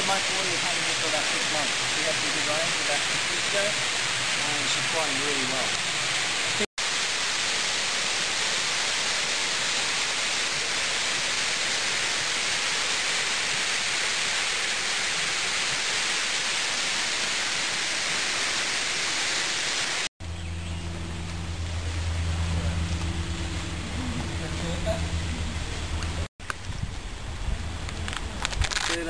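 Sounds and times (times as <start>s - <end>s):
waterfall rushing: 0.0s - 26.3s.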